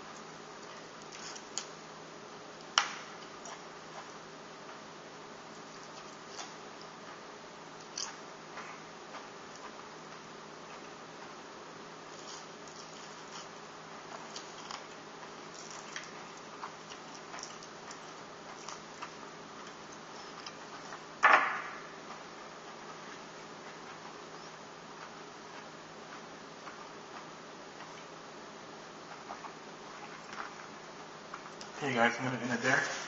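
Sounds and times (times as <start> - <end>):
faint buzzing hum: 0.0 - 33.0.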